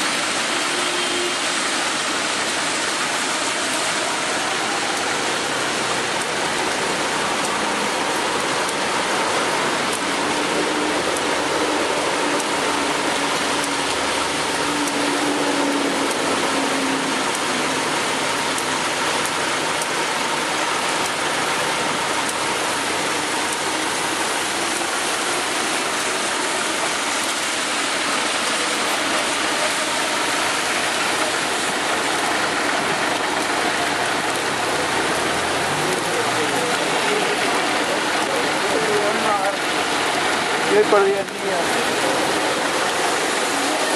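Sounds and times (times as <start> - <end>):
heavy rain on pavement: 0.0 - 43.9.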